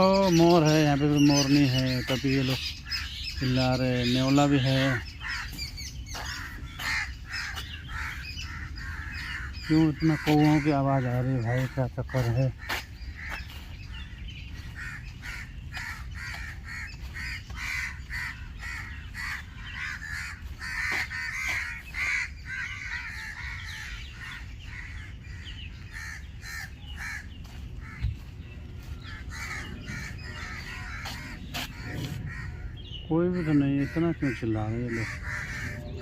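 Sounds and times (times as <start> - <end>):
crows cawing: 0.0 - 36.0.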